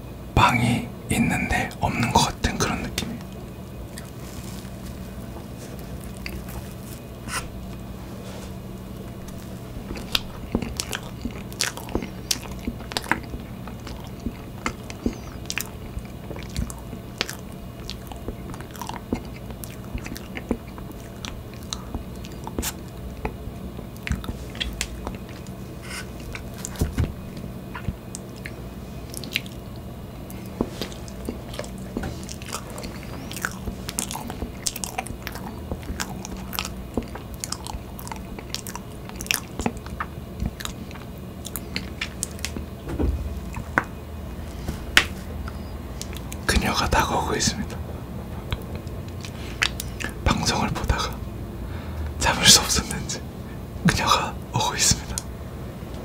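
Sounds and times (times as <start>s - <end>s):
steady low hum: 0.0s - 56.0s
chewing and mouth sounds: 2.4s - 42.8s, 43.4s - 51.2s.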